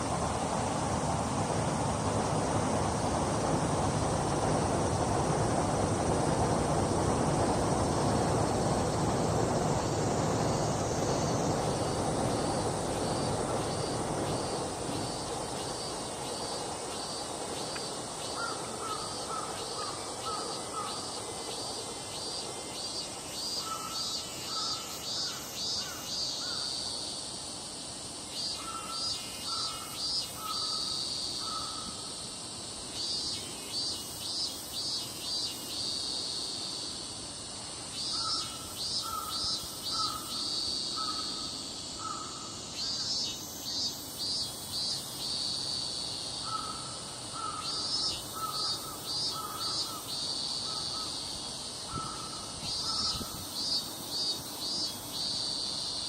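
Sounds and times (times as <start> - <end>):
high-pitched insect trill: 0.0 - 56.0.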